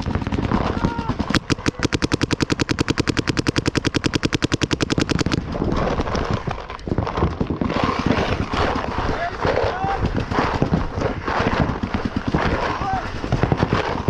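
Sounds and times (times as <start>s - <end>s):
paintball marker rapid firing: 0.0s - 14.0s.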